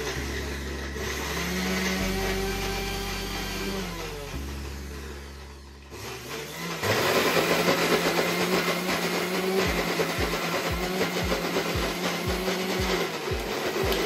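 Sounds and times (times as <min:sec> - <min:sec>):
mixer grinder motor whirring: 0:00.0 - 0:14.0.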